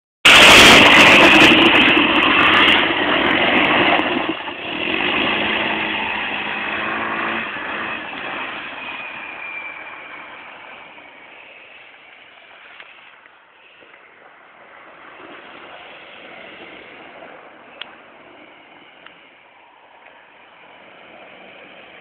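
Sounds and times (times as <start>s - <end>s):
atv engine running hard: 0.3s - 22.0s.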